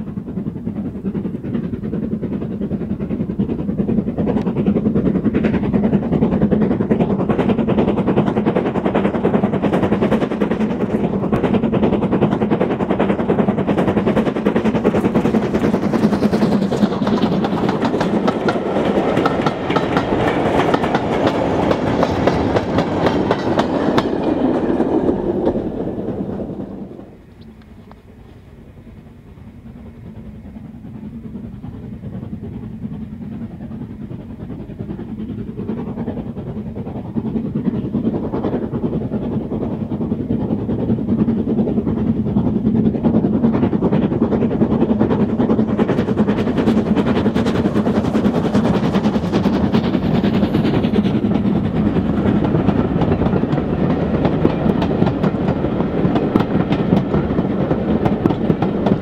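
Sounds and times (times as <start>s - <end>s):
steam locomotive exhaust beats: 0.0s - 59.0s
train wheel clatter: 0.0s - 59.0s.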